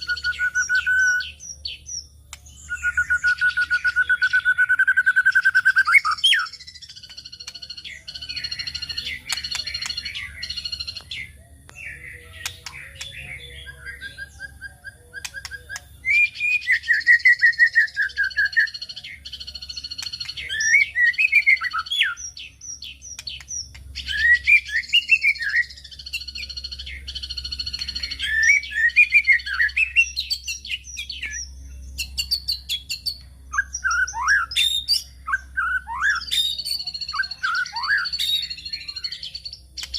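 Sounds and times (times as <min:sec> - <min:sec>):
songbird whistling and warbling: 0:00.0 - 0:39.9.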